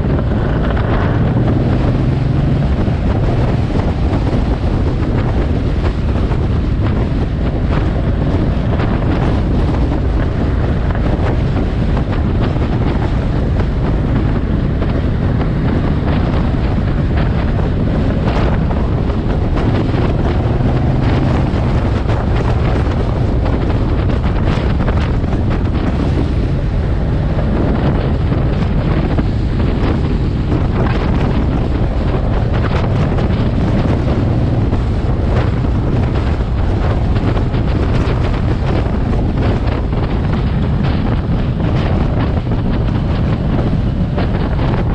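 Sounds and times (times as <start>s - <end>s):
motorcycle engine running: 0.0s - 44.9s
wind noise on microphone: 0.0s - 44.9s.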